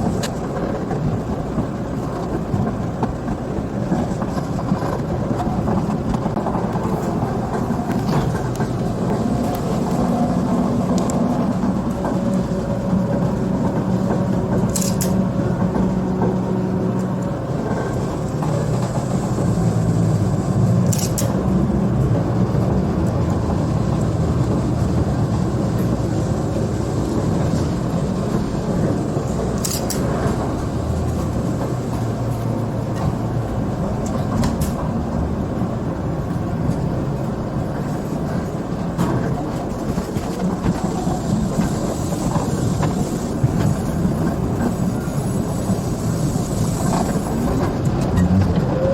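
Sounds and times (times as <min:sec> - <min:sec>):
train rumble: 0:00.0 - 0:48.9
wheels clacking over rail joints: 0:00.0 - 0:48.9.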